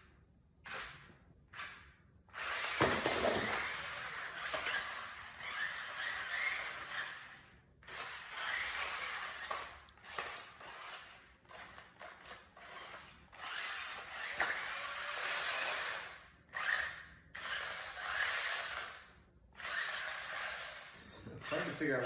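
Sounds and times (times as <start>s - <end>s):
toy car motors whirring: 0.6s - 22.0s
toy car clicks and knocks: 0.7s - 21.8s.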